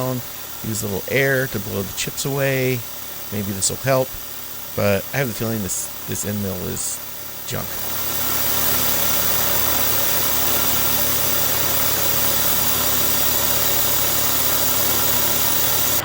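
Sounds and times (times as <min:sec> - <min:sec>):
compressed air blow gun hissing: 0:00.0 - 0:16.0
milling machine spindle running: 0:00.0 - 0:16.0.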